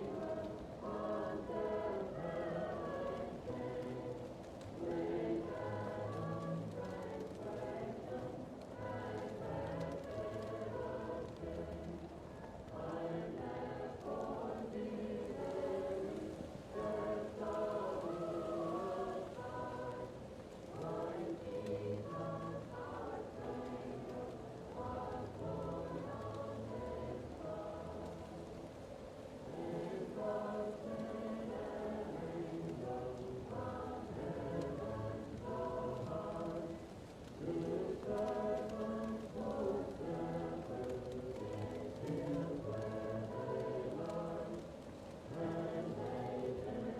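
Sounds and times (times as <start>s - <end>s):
faint steady crackle: 0.0s - 46.9s
muffled choir singing: 0.0s - 46.9s.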